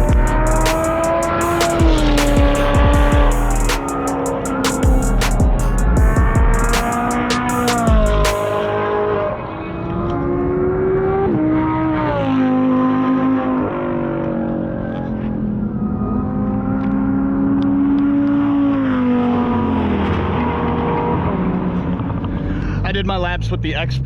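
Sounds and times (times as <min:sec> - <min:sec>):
sports car engine revving: 0:00.0 - 0:22.6.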